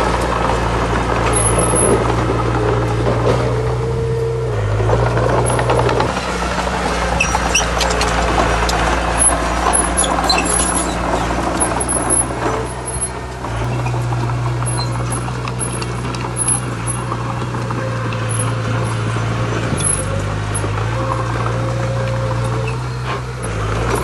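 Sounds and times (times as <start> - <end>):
clanks and rattles: 0.0 - 24.0
heavy diesel machinery running: 0.0 - 24.0.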